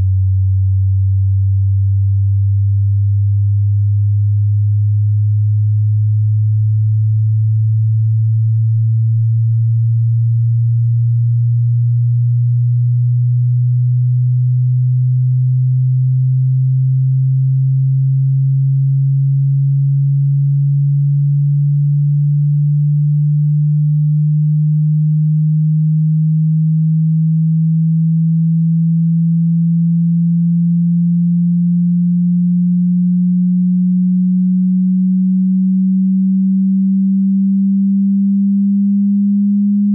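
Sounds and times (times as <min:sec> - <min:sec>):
sine tone sweeping upward: 0:00.0 - 0:39.9.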